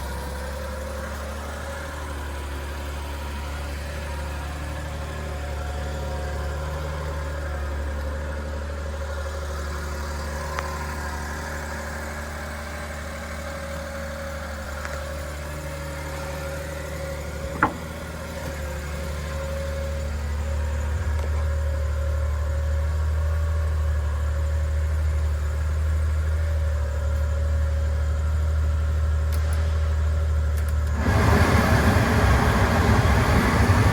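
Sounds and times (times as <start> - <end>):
small truck engine idling: 0.0 - 33.9.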